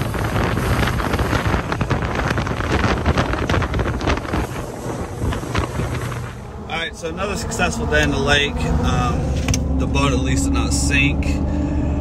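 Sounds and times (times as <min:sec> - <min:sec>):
motorboat engine: 0:00.0 - 0:12.0
wind buffeting microphone: 0:00.0 - 0:12.0.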